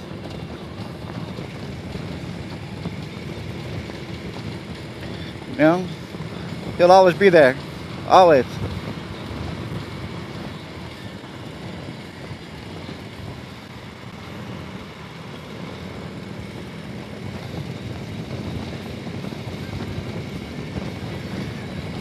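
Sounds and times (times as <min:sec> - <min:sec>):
motorcycle engine drone: 0:00.0 - 0:22.0
road and wind noise: 0:00.0 - 0:22.0.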